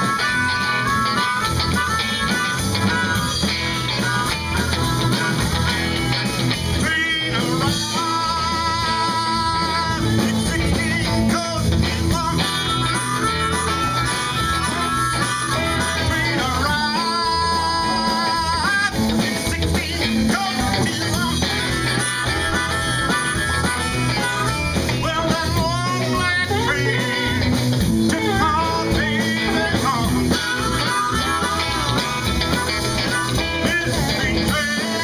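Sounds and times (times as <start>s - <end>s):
harmonica: 0.0s - 35.0s
live blues-rock band: 0.0s - 35.0s
man singing: 0.0s - 35.0s.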